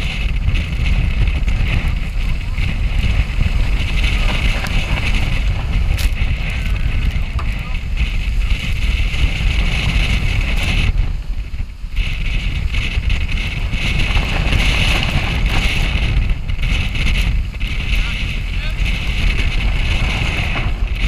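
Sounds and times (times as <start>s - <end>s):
water rushing along hull: 0.0s - 21.0s
wind rumbling on microphone: 0.0s - 21.0s.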